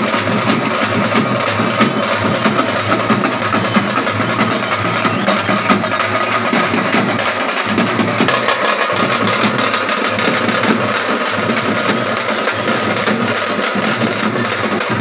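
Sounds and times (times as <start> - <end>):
dense crowd din: 0.0 - 15.0
music: 0.0 - 15.0.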